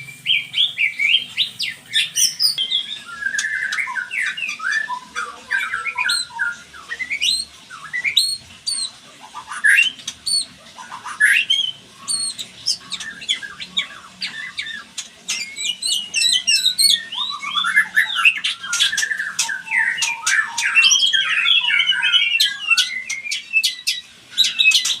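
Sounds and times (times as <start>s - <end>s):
birds calling with clicks and warbles: 0.0s - 25.0s.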